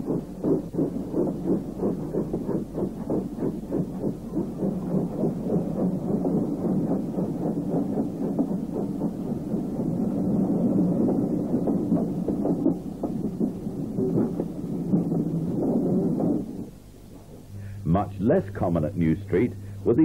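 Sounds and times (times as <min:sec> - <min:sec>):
continuous rumble: 0:00.0 - 0:20.0
steam locomotive exhaust beats: 0:00.0 - 0:20.0.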